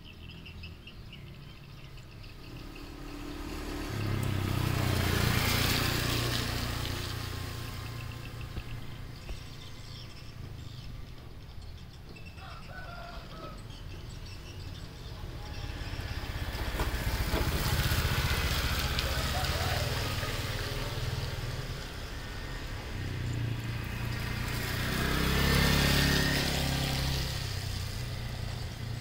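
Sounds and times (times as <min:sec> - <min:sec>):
vehicle engine passing: 0:01.5 - 0:11.6, 0:12.2 - 0:29.0.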